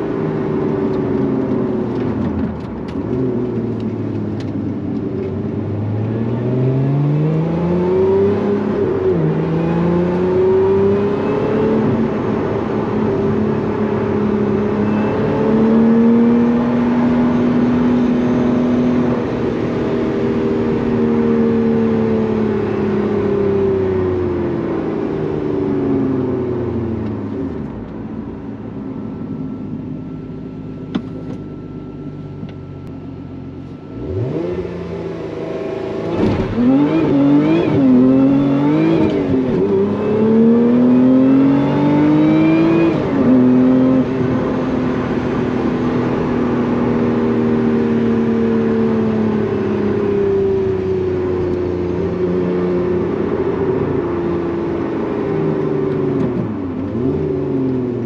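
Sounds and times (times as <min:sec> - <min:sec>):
car engine from inside cabin: 0:00.0 - 0:58.0.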